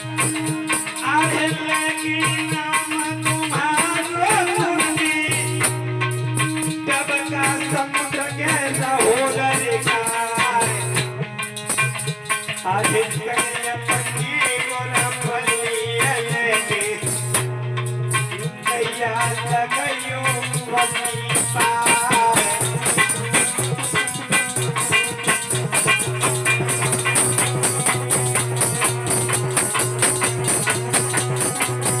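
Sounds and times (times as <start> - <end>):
drums: 0.0 - 32.0
rattling jingling percussion: 0.0 - 32.0
wavering folk melody: 0.0 - 32.0.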